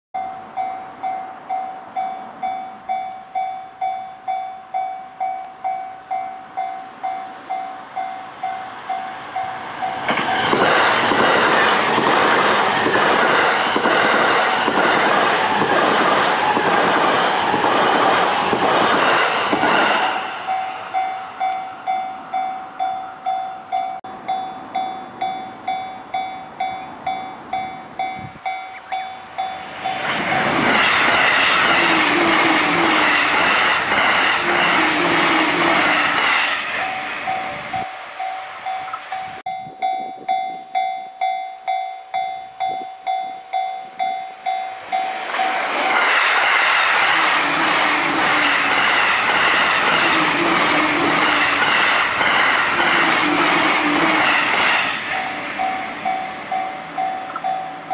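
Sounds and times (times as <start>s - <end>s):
train rushing past: 0.2s - 39.5s, 43.5s - 57.9s
train wheels clacking on rails: 7.0s - 40.0s, 42.6s - 57.9s.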